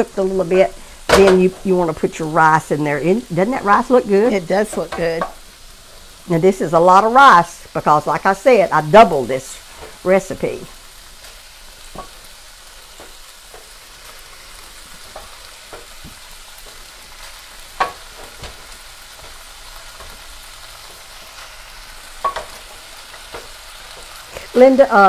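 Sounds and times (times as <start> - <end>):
rice sizzling in oil: 0.0 - 25.0.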